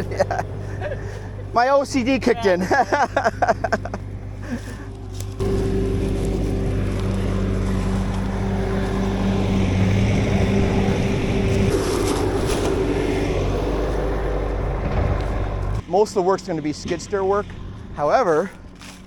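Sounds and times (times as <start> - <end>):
skid steer engine running: 0.0 - 19.0.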